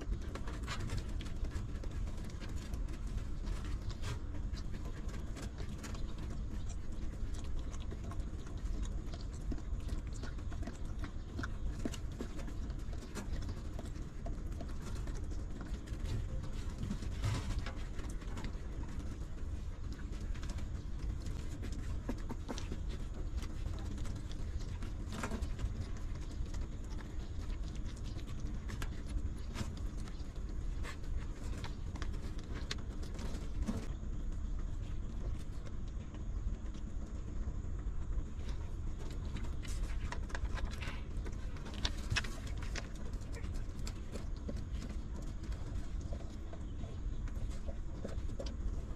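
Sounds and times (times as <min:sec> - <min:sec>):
wet licking and sucking clicks: 0:00.0 - 0:34.0, 0:34.7 - 0:48.9.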